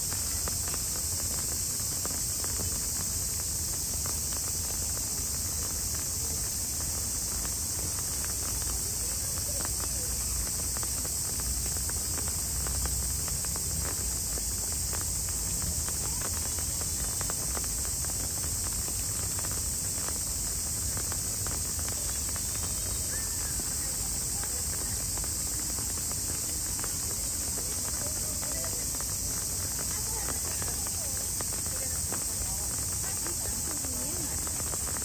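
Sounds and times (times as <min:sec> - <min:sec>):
faint drip ticks: 0:00.0 - 0:35.0
steady rain hiss: 0:00.0 - 0:35.0.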